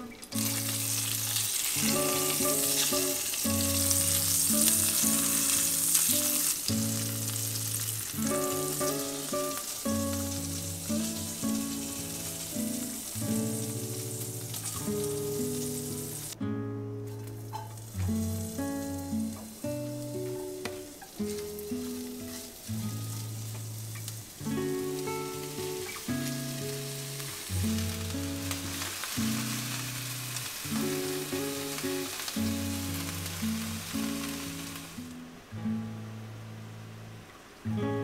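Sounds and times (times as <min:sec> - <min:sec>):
food sizzling in hot oil: 0:00.0 - 0:16.4, 0:17.1 - 0:35.2
soft background music: 0:00.0 - 0:34.9.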